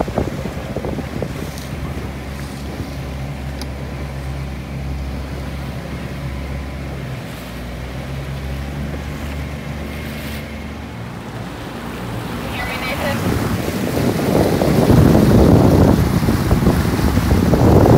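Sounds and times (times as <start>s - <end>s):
outboard motor humming: 0.0s - 17.9s
water rushing past hull: 0.0s - 17.9s.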